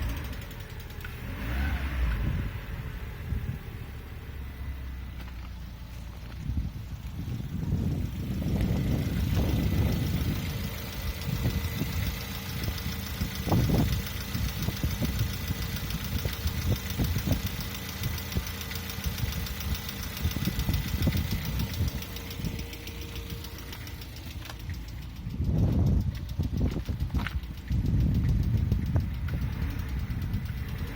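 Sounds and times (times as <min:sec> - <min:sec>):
car engine idling with knocking: 0:00.0 - 0:30.9.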